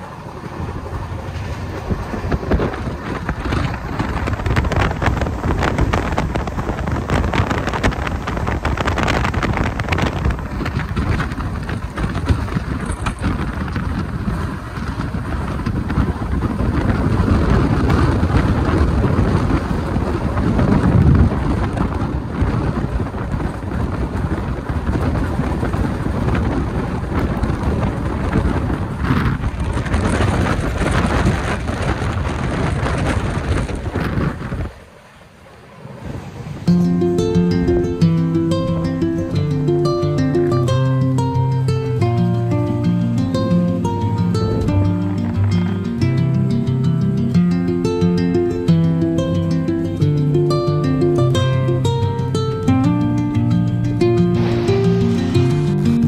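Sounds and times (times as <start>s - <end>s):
train rumbling and rattling: 0.0s - 56.0s.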